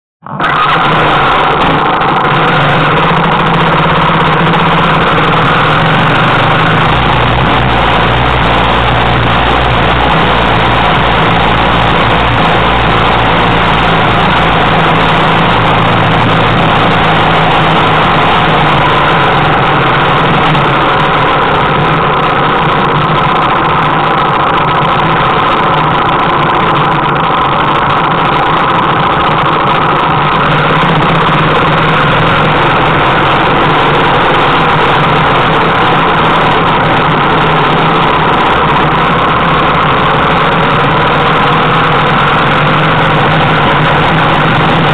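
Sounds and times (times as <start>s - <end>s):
motorcycle engine running: 0.2s - 44.9s.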